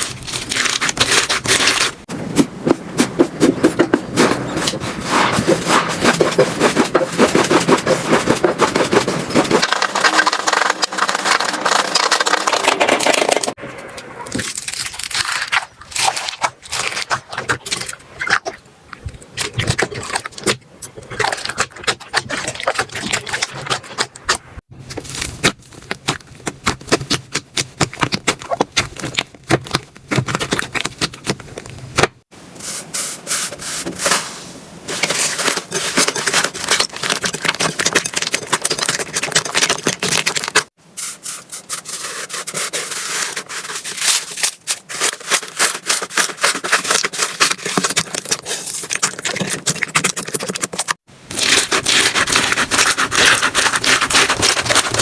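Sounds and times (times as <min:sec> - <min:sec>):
slime squishing and crackling: 0:00.0 - 0:02.1, 0:02.9 - 0:13.6, 0:14.3 - 0:18.6, 0:19.3 - 0:32.2, 0:34.9 - 0:40.7, 0:41.9 - 0:55.0.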